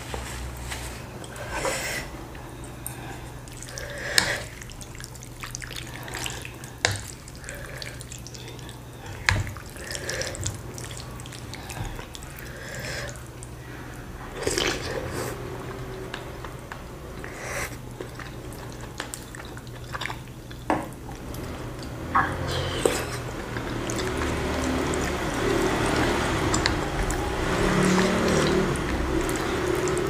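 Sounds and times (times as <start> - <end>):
noodles slurped and chewed: 0.7 - 30.0.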